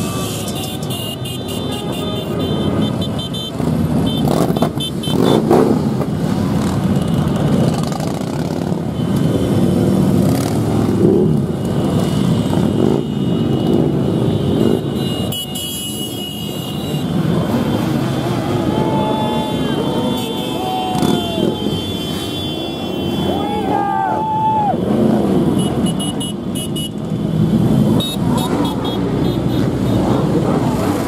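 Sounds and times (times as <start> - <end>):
motorcycles riding past: 2.8 - 15.3, 16.6 - 31.0.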